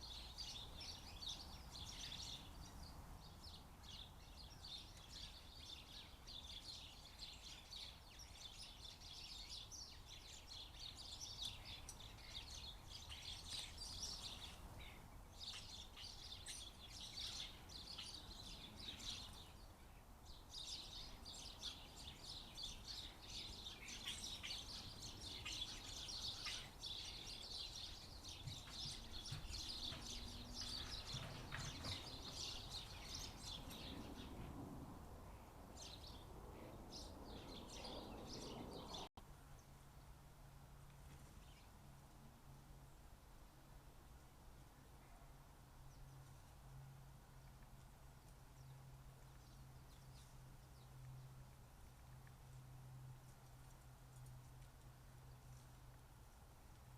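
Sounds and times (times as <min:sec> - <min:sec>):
small birds chirping: 0:00.0 - 0:34.6, 0:35.3 - 0:40.2, 0:44.7 - 0:56.9.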